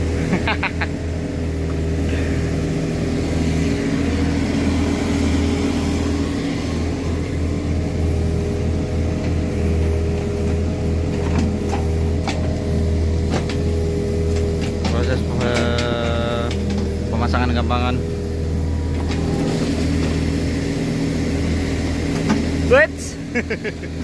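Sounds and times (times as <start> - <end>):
diesel excavator engine running: 0.0 - 24.0.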